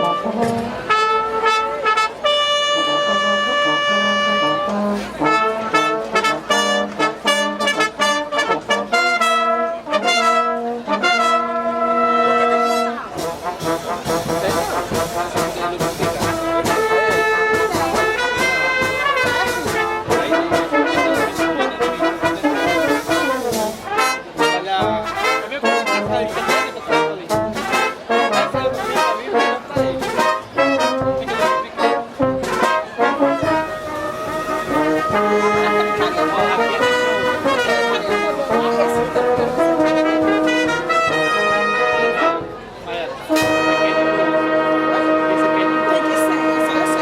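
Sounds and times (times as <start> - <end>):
brass orchestra playing: 0.0 - 47.0.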